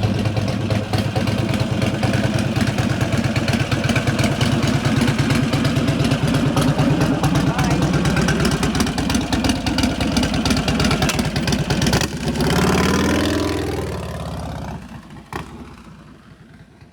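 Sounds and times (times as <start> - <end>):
motorcycle engine running: 0.0 - 16.9
motorcycle riding off: 0.0 - 16.9.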